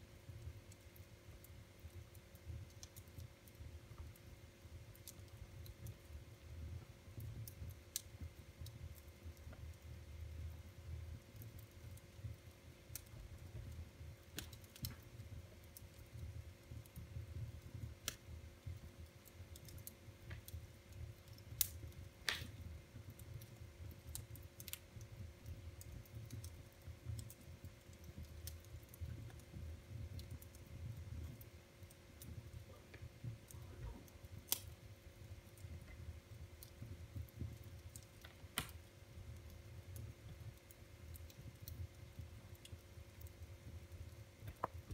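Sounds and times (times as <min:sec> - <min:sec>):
low rumble of flame: 0:00.0 - 0:44.9
wood fire crackling and popping: 0:00.0 - 0:44.9.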